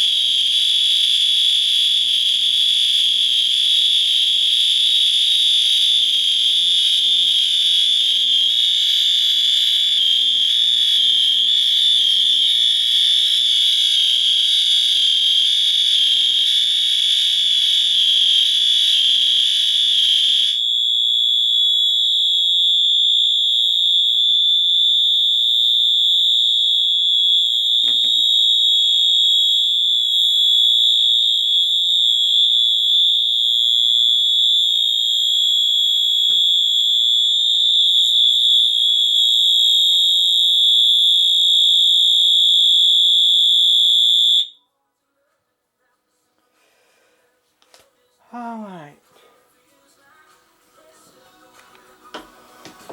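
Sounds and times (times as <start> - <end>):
harsh alarm buzzing: 0.0 - 44.5
fire alarm high-pitched tone: 0.0 - 44.7.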